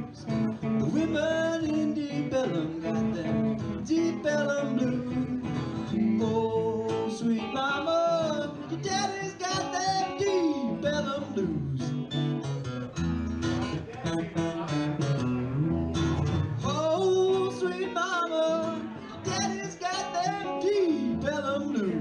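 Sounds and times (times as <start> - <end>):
acoustic guitar strumming: 0.0 - 22.0
electric blues guitar lead: 0.0 - 22.0.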